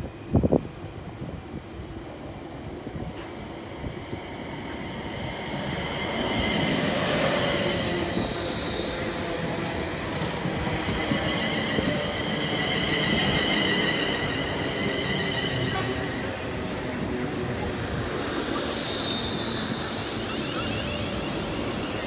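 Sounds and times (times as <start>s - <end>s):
high train whine: 0.0s - 22.0s.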